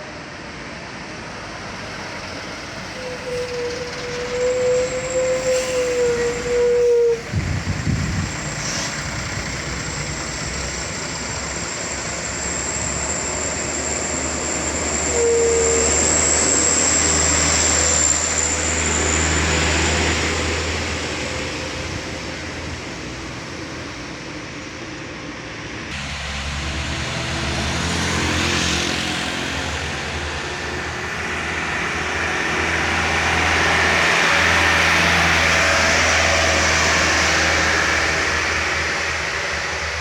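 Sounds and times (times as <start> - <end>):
truck diesel engines droning: 0.0 - 40.0.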